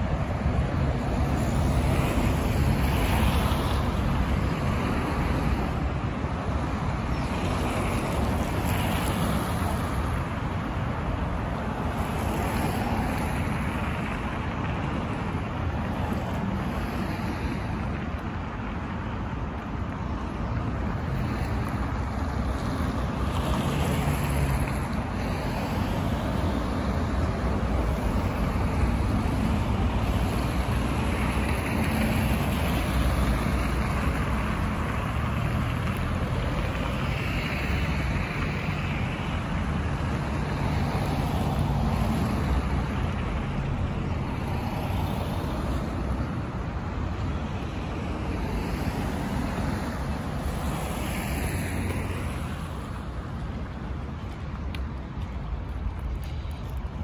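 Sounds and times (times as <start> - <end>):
cars passing: 0.0 - 57.0
low traffic rumble: 0.0 - 57.0.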